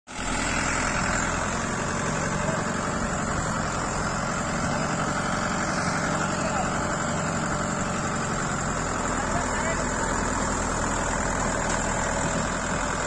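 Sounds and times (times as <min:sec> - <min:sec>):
tractor diesel engine running: 0:00.1 - 0:13.0.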